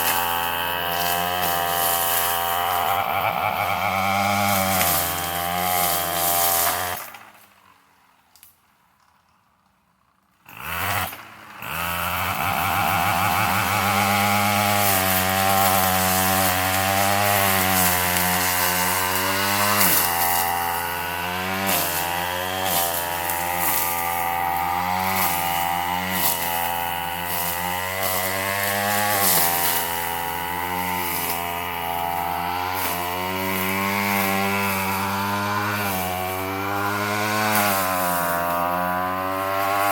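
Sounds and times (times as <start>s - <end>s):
string trimmer revving: 0.0s - 7.7s, 10.4s - 39.9s.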